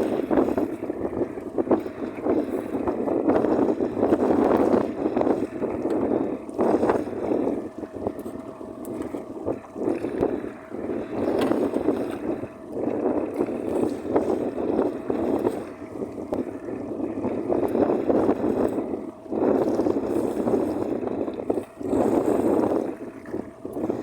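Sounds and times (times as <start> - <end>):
choppy water: 0.0 - 24.0
wind buffeting microphone: 0.0 - 24.0.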